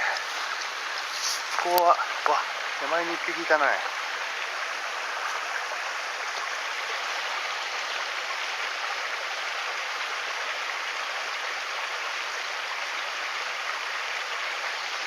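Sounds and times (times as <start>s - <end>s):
stream water running over rocks: 0.0s - 15.0s.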